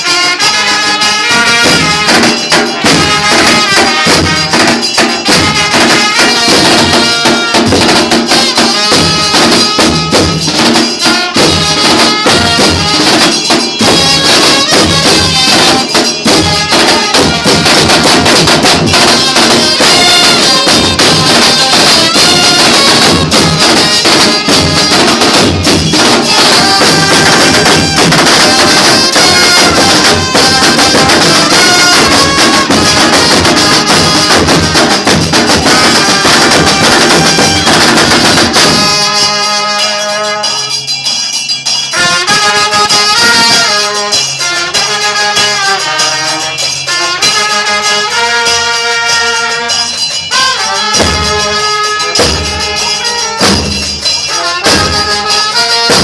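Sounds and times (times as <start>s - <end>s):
band music: 0.0s - 40.7s, 41.9s - 56.0s.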